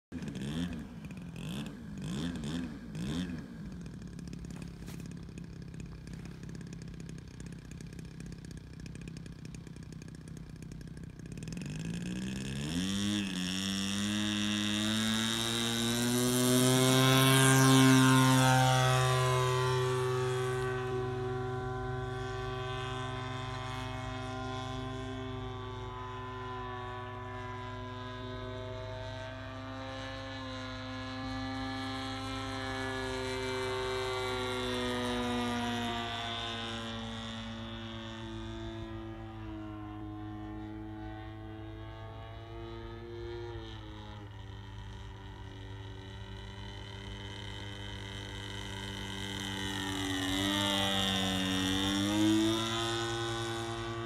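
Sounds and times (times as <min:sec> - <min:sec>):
model plane engine: 0:00.1 - 0:54.0.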